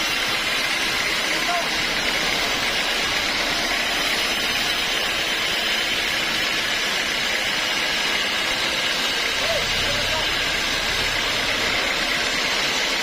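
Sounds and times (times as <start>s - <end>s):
sawmill machinery hissing: 0.0s - 13.0s.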